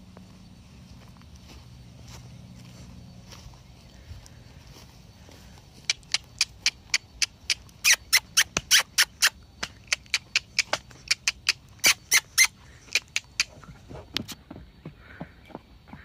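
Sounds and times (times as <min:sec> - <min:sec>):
horse hooves clip-clopping: 0:00.0 - 0:16.0.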